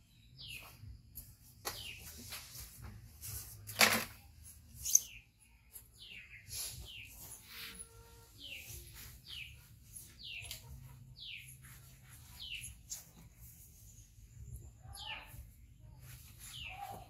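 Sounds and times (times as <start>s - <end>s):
small bird chirping: 0.0s - 2.7s, 4.2s - 17.0s.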